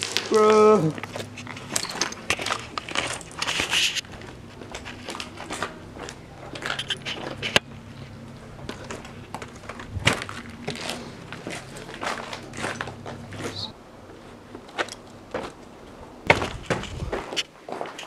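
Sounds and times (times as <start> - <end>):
footsteps crunching on gritty stairs: 0.0 - 13.7, 14.3 - 18.0.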